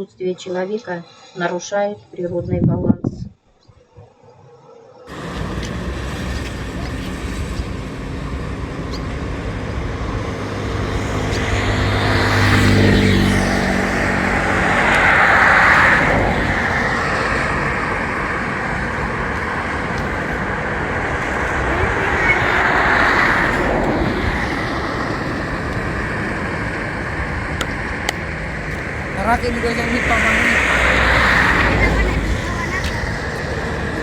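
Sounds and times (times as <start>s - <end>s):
steady rushing noise: 3.9s - 34.0s.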